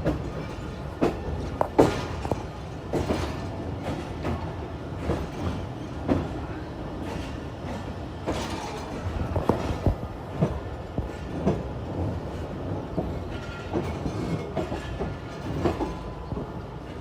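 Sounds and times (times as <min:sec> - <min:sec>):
train rumble: 0:00.0 - 0:17.0
train wheels clacking: 0:00.0 - 0:17.0.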